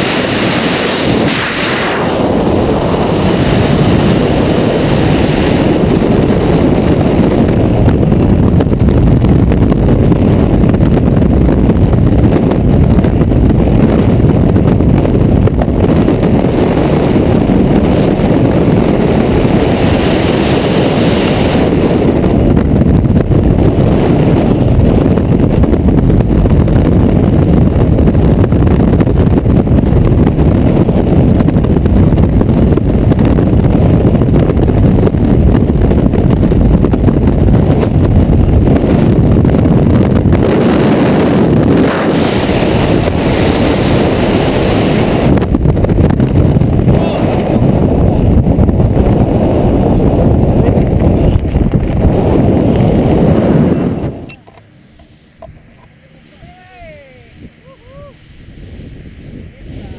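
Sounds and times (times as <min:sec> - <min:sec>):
freefall wind buffeting microphone: 0:00.0 - 0:59.9.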